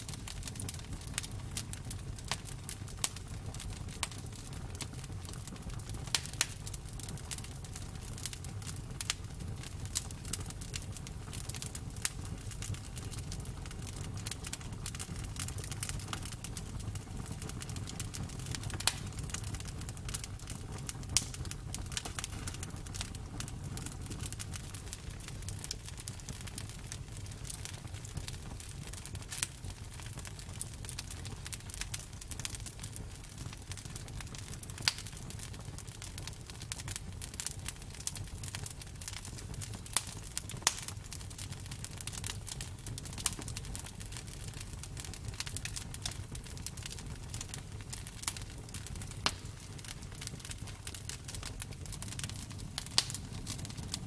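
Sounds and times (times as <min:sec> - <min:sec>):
burning wood crackling and popping: 0:00.0 - 0:54.0
campfire flames rumbling: 0:00.0 - 0:54.0.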